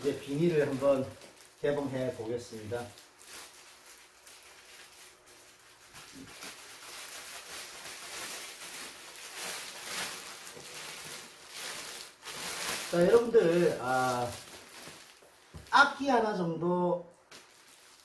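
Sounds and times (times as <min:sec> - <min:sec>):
plastic wrapping crinkling: 0:00.0 - 0:16.2, 0:17.3 - 0:18.0.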